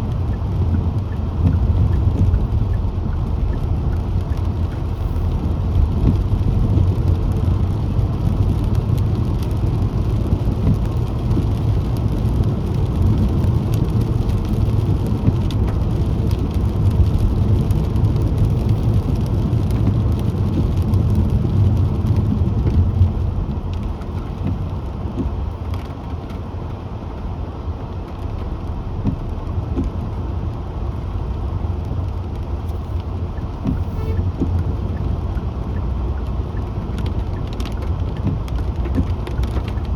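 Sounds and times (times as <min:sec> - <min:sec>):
car tyres on wet road: 0:00.0 - 0:39.9.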